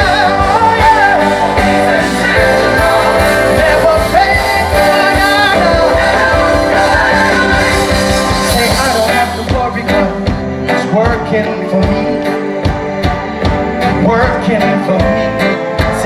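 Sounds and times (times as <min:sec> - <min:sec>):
drums: 0:00.0 - 0:16.0
gospel band playing: 0:00.0 - 0:16.0
voices singing: 0:00.0 - 0:16.0.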